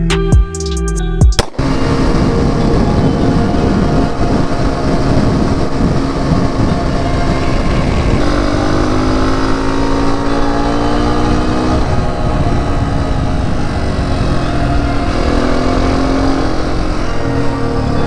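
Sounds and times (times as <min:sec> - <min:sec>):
dirt bike engine running: 0:01.3 - 0:18.0
wind rumble on microphone: 0:01.4 - 0:18.0.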